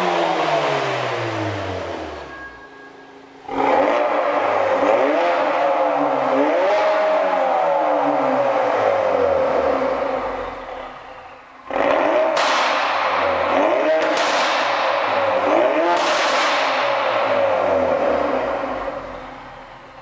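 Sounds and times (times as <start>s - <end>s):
car engine revving: 0.0s - 2.6s, 3.3s - 20.0s.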